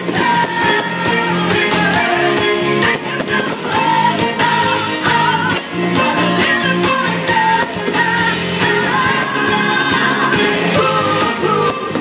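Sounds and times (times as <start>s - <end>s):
song with singing voice: 0.0s - 12.0s.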